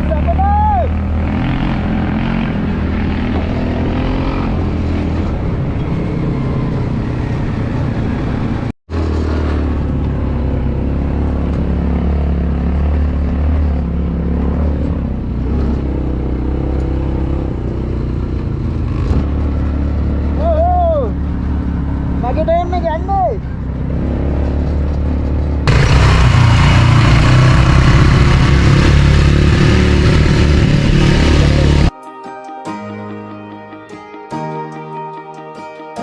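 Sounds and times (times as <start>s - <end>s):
road and wind noise: 0.0s - 31.9s
vehicle engine droning: 0.0s - 31.9s.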